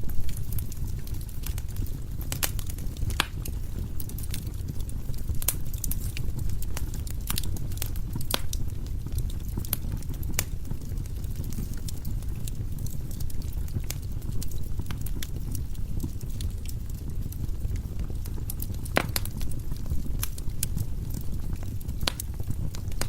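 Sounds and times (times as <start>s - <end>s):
flames rumbling: 0.0s - 23.0s
wood crackling and popping: 0.0s - 23.0s.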